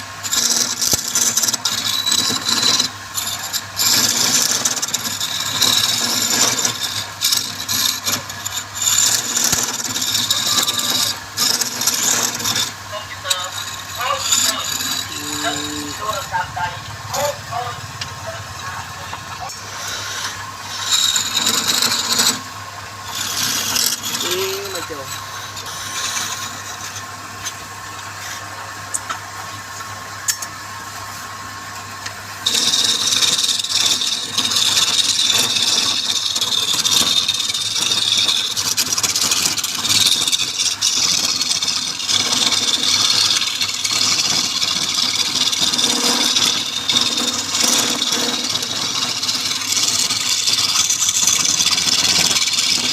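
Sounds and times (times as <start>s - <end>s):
wood lathe running: 0.0s - 28.9s, 32.4s - 52.9s
rasping cut with high whine: 0.0s - 29.0s, 32.0s - 52.9s
tool scraping spinning wood: 0.0s - 31.3s, 32.0s - 52.9s.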